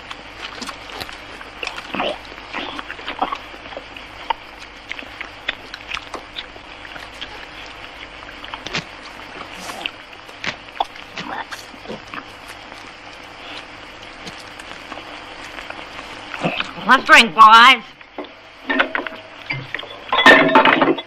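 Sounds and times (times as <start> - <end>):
noisy chewing: 0.0 - 17.0.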